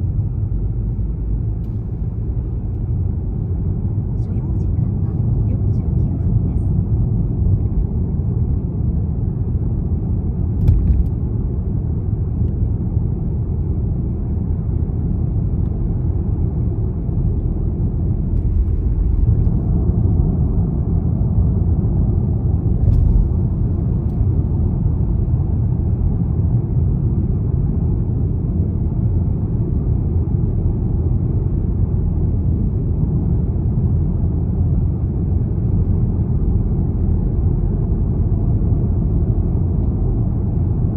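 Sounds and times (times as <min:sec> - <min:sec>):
car engine rumble: 0:00.0 - 0:40.9
road noise: 0:00.0 - 0:40.9.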